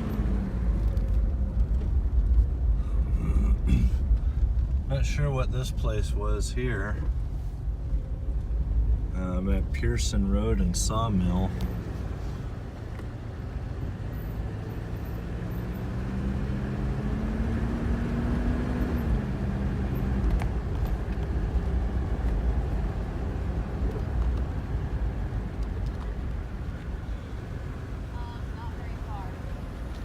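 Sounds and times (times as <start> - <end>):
car engine rumble: 0.0 - 30.0
road noise: 0.0 - 30.0.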